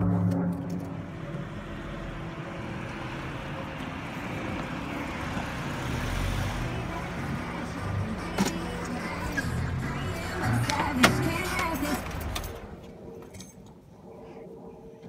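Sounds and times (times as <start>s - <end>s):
car driving past: 0.0s - 12.8s.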